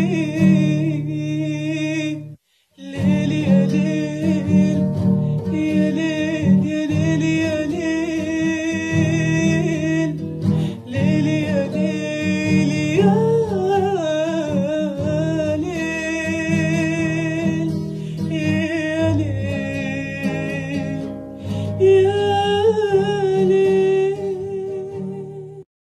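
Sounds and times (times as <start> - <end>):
woman singing: 0.0 - 10.2, 10.8 - 25.6.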